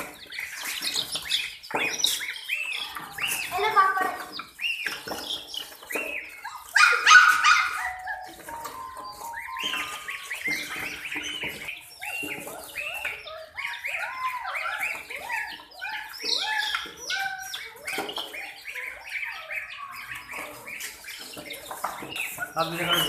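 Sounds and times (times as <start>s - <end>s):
baby chicks peeping: 0.0s - 23.0s.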